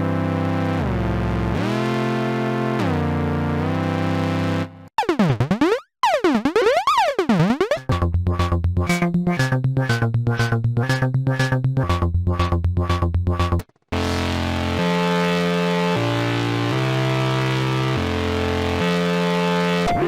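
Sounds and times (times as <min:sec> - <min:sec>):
sequenced synth bass line: 0:00.0 - 0:20.0.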